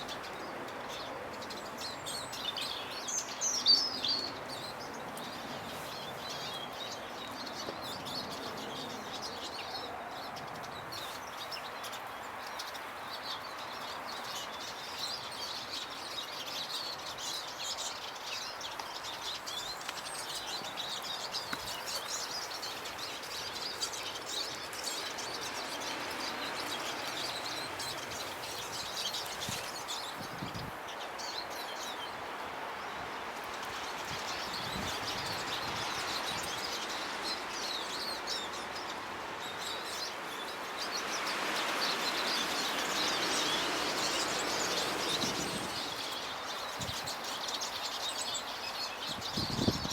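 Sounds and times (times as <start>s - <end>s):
steady background hiss: 0.0s - 49.8s
songbirds chirping: 0.0s - 49.9s.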